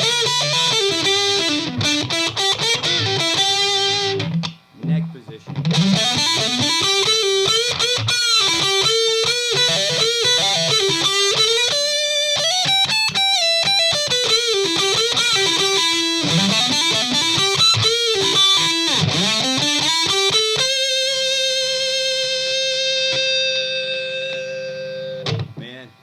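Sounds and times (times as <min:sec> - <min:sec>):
distorted electric guitar lead: 0:00.0 - 0:26.0.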